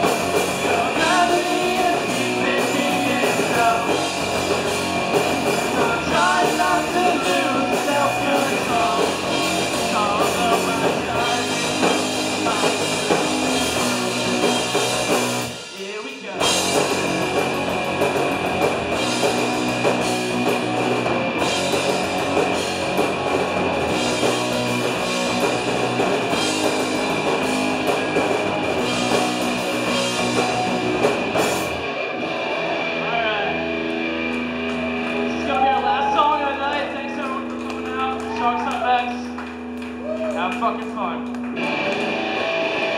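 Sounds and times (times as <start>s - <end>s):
punk rock band playing: 0.0s - 42.9s.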